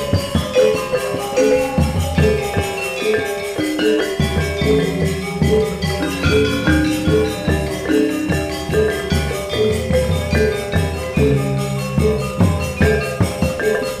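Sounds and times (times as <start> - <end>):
gamelan metallophones and gongs: 0.0 - 14.0
hand drum: 0.0 - 14.0.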